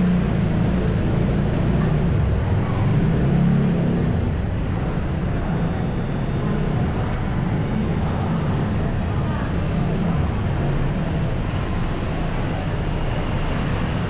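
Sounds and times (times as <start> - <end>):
low traffic rumble: 0.0 - 14.0
vehicle engines passing: 0.0 - 14.0.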